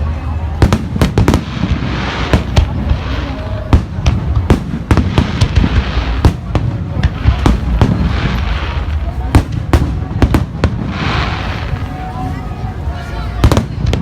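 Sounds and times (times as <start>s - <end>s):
low rumble of explosions: 0.0s - 14.0s
fireworks bangs: 0.4s - 12.4s, 13.2s - 14.0s.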